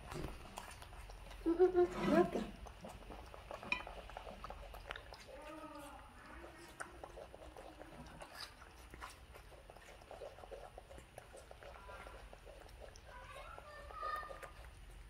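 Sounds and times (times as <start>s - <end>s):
clicks and smacks of eating: 0.0s - 15.0s.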